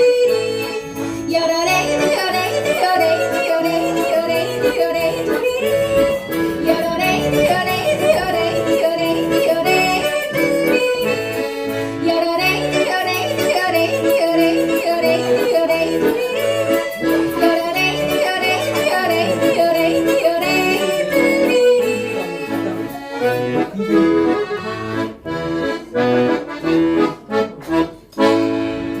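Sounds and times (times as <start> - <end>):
accordion playing yodel-style tune: 0.0 - 29.0
short separated accordion chords: 0.0 - 29.0.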